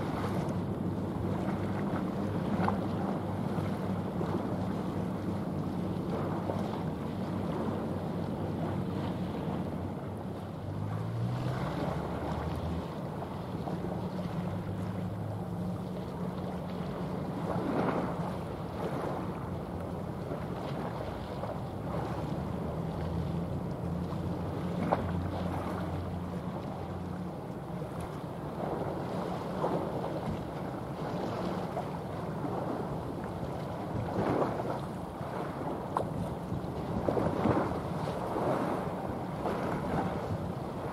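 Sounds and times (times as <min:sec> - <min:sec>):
rushing water: 0:00.0 - 0:40.9
ship engine drone: 0:00.0 - 0:40.9
wind on microphone: 0:00.0 - 0:40.9.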